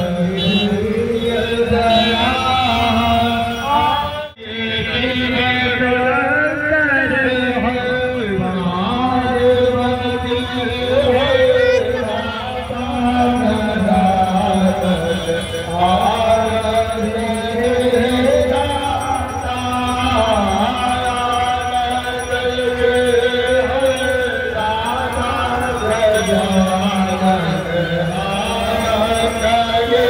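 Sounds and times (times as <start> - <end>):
crowd: 0.0 - 30.0
devotional chanting with music: 0.0 - 30.0.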